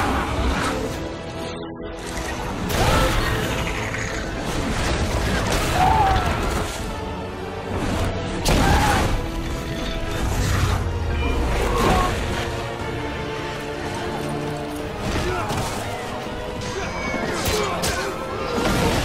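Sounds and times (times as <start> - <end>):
dramatic film score: 0.0 - 19.0.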